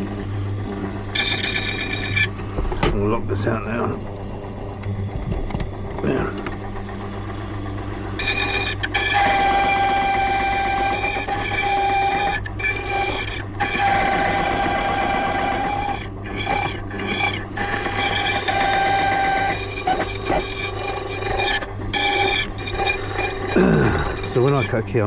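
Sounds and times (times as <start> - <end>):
key cutter ringing whine: 0.0 - 25.0
machine motor hum: 0.0 - 25.0.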